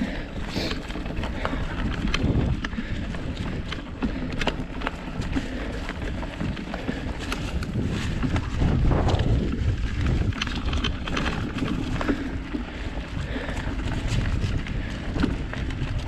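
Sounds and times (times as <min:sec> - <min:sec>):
bike clicks and rattles: 0:00.0 - 0:16.0
bike tyre noise: 0:00.0 - 0:16.0
wind buffeting microphone: 0:00.0 - 0:16.0.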